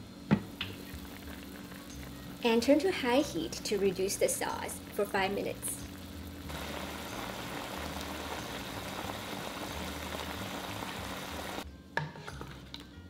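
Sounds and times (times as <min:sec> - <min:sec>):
sauce bubbling in a pot: 0:00.5 - 0:11.6.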